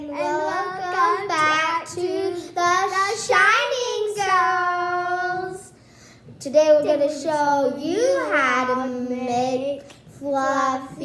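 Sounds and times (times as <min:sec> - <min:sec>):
child singing: 0:00.0 - 0:05.8, 0:06.5 - 0:11.0.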